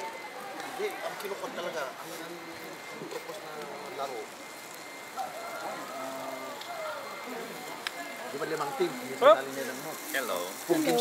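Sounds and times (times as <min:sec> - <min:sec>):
faint steady high tone: 0:00.0 - 0:11.0
people talking indistinctly: 0:00.0 - 0:11.0.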